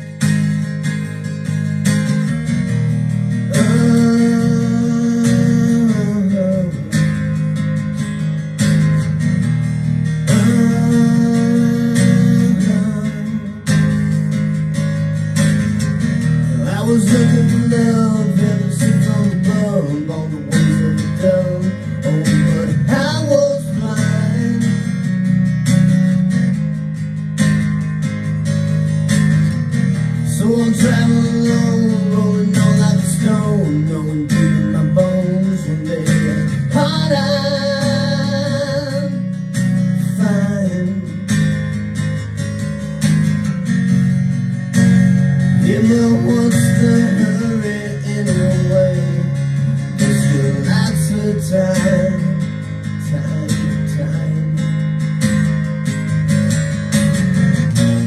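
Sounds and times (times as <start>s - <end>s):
low bass: 0.0s - 58.0s
strummed acoustic guitar: 0.0s - 58.0s.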